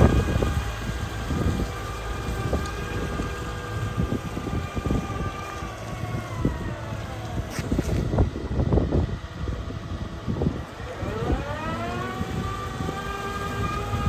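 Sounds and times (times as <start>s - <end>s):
excavator engine drone: 0.0s - 14.0s.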